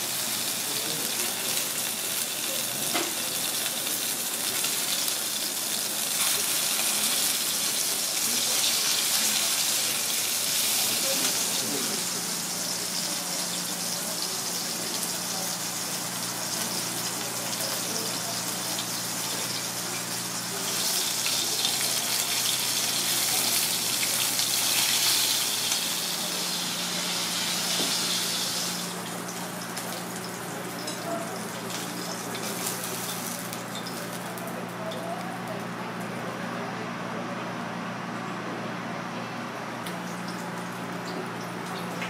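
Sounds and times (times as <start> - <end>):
fish sizzling in oil: 0.0 - 35.6.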